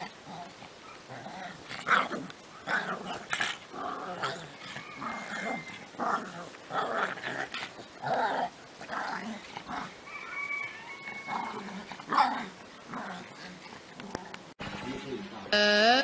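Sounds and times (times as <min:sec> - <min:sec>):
dogs growling and yipping: 0:00.0 - 0:14.5.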